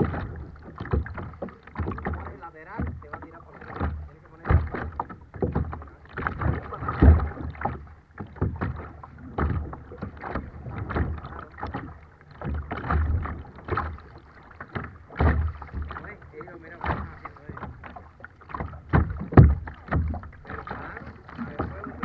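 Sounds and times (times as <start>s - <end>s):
water splashing against kayak: 0.0s - 22.0s.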